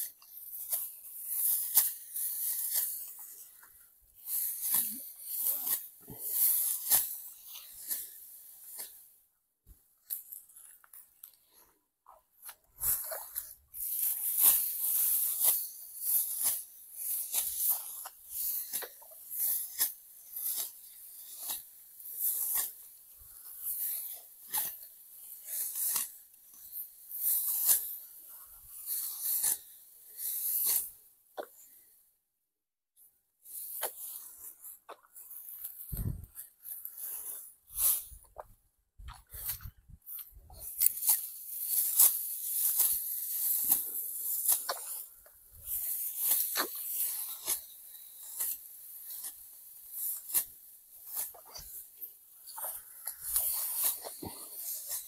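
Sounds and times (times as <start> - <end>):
rice stalks rustling as cut: 0.3 - 3.6, 4.2 - 8.9, 12.8 - 30.9, 33.5 - 38.4, 39.2 - 55.0.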